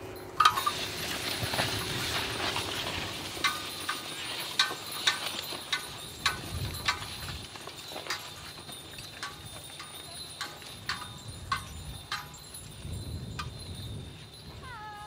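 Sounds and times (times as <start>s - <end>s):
metallic harness clinks: 1.8s - 15.0s.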